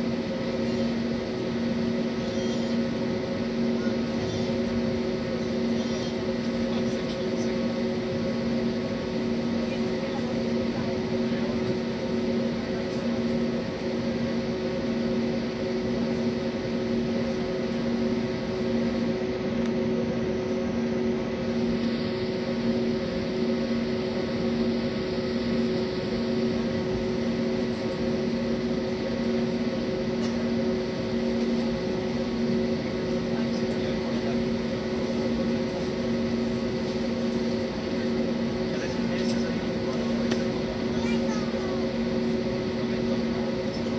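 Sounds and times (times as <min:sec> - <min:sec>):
airplane cabin hum: 0:00.0 - 0:43.9.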